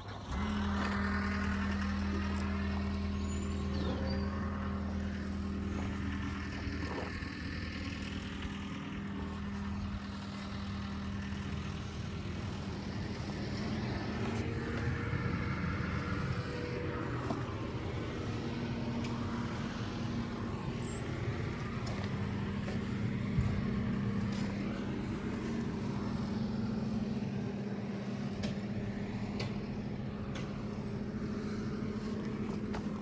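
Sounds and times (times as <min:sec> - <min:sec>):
engine idling: 0:00.0 - 0:33.0.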